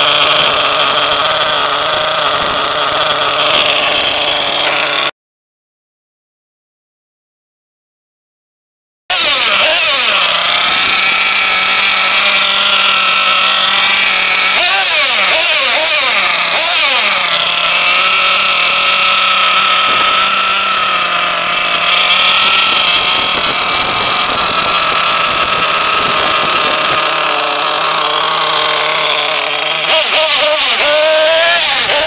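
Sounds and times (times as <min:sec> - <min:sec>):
small two-stroke engine idling: 0:00.0 - 0:05.1, 0:09.1 - 0:32.0.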